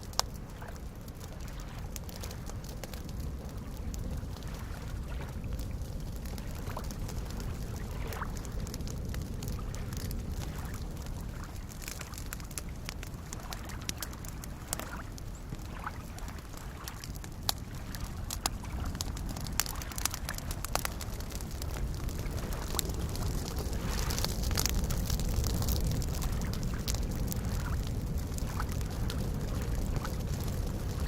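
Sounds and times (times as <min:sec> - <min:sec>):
campfire crackling and popping: 0:00.0 - 0:31.0
lake waves lapping: 0:00.1 - 0:30.9.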